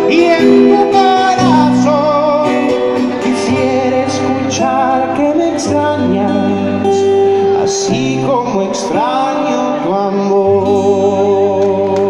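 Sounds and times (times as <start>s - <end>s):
instrumental accompaniment: 0.0s - 12.0s
man singing a ballad: 0.0s - 12.0s.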